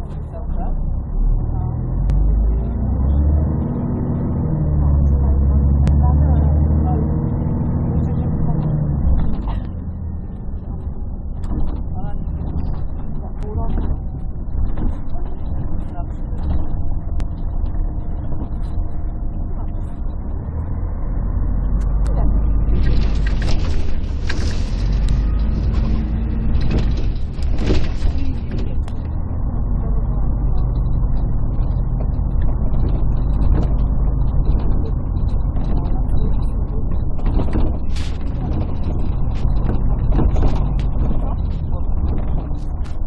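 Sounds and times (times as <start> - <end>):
muffled bus engine rumble: 0.0 - 43.0.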